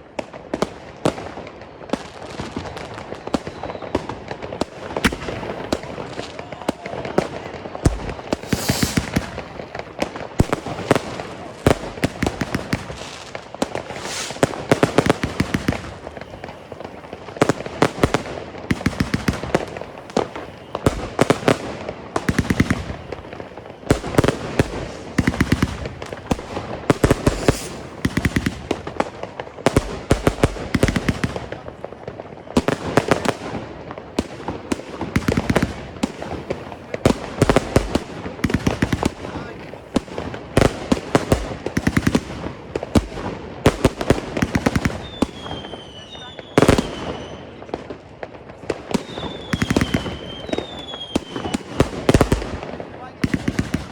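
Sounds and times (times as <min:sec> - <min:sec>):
firework cracks and bangs: 0:00.0 - 0:53.9.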